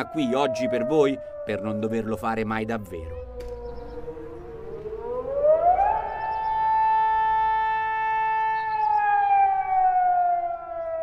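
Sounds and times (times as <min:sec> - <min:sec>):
air-raid siren wailing: 0:00.0 - 0:11.0.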